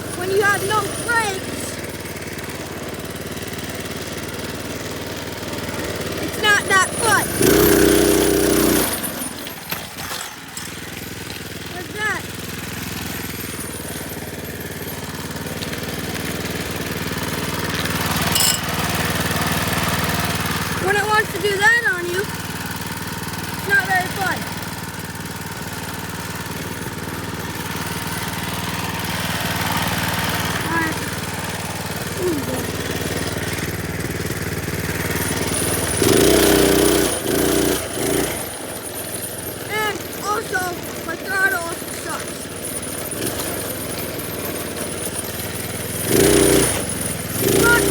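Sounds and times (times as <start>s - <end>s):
minibike engine running: 0.0s - 47.9s.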